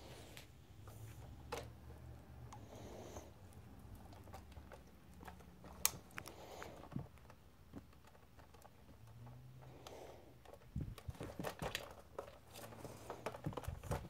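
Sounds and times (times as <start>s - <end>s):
kitten batting plastic toy: 0.8s - 14.0s.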